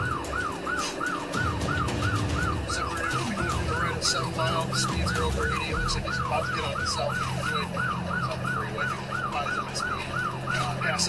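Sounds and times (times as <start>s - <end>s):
car engine and road noise: 0.0s - 11.0s
police siren yelping: 0.0s - 11.0s.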